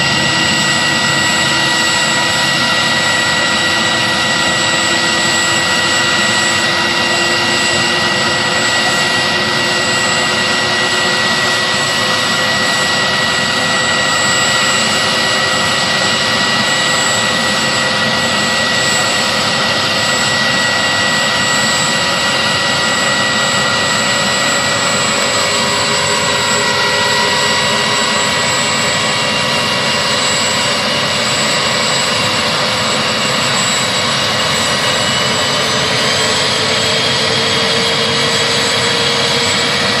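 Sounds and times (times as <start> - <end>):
helicopter rotor and engines: 0.0 - 40.0
high turbine whine: 0.0 - 40.0.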